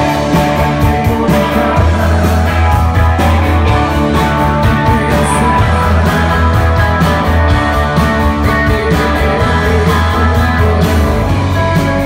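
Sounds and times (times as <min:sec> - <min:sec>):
rock band playing live: 0:00.0 - 0:12.0
steady drum beat: 0:00.0 - 0:12.0.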